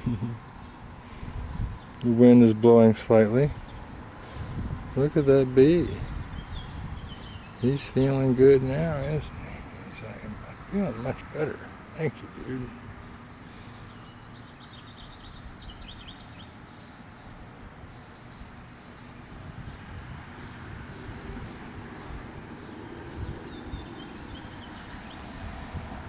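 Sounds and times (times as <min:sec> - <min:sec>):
light wind rumble: 0:00.0 - 0:26.0
small birds chirping: 0:00.0 - 0:26.0.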